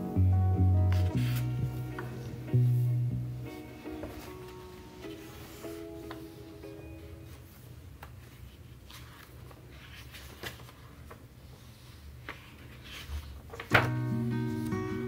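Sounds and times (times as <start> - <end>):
paper notebooks rustling: 0.9 - 2.4, 3.8 - 14.7.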